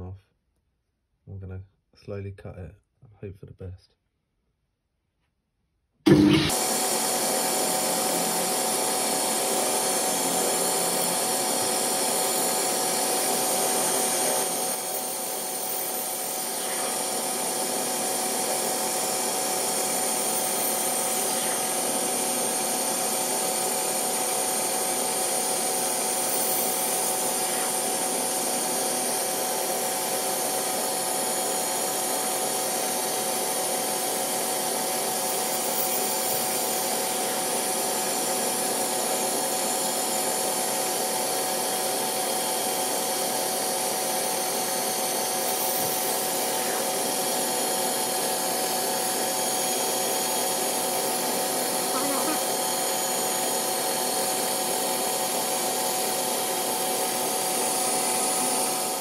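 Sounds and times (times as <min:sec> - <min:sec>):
lathe cutting metal: 0:06.1 - 0:59.0.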